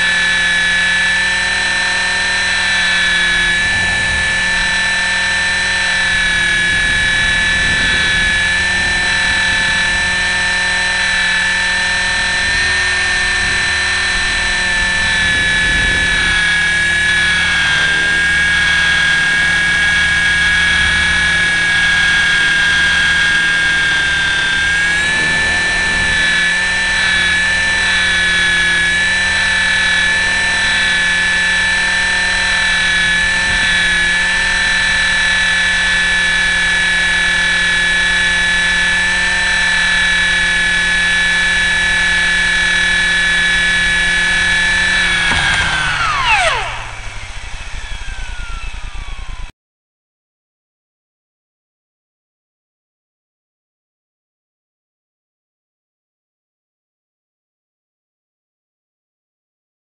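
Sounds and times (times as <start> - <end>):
model helicopter motor whine: 0.0 - 49.5.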